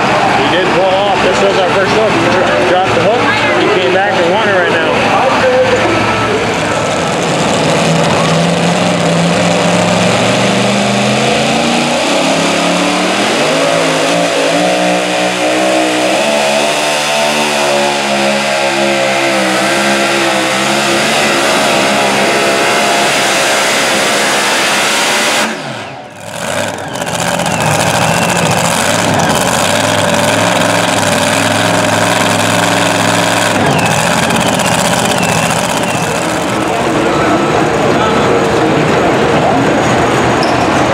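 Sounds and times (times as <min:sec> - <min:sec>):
truck engine revving hard: 0:00.0 - 0:40.9.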